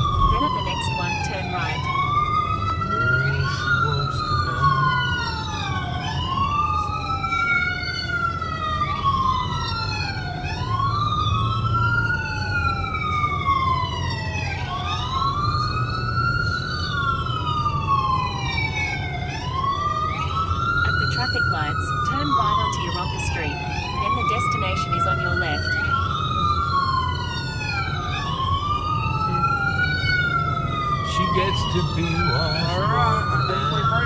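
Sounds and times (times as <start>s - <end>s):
low road rumble: 0.0s - 34.0s
wailing siren: 0.0s - 34.0s.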